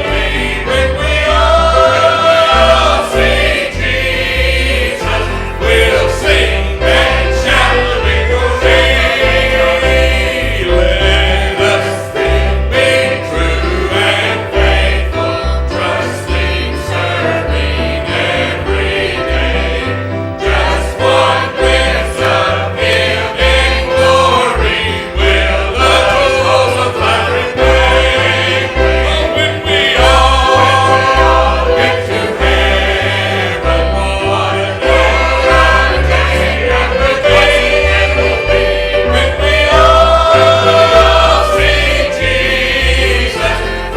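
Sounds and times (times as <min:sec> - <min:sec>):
group singing a gospel hymn: 0:00.0 - 0:43.9
instrumental accompaniment: 0:00.0 - 0:43.9.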